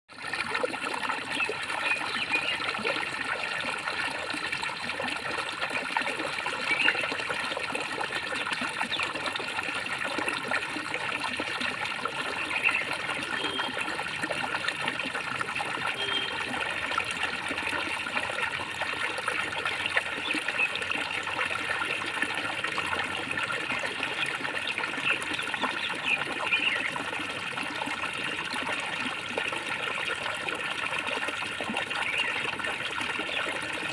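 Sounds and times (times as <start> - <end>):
water gurgling and trickling: 0.1 - 33.9
water splashes: 0.1 - 33.9.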